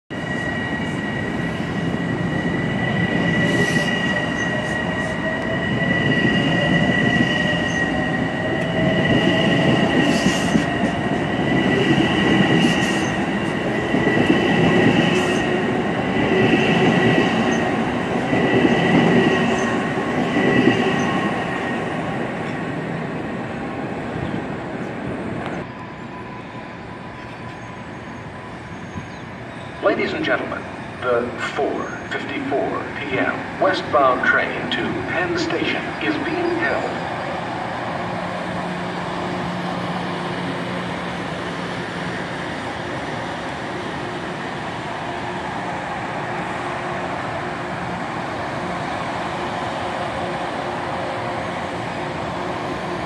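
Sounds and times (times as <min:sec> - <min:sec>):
high-pitched train whine: 0:00.1 - 0:53.0
train wheels rumbling on rails: 0:00.1 - 0:53.0.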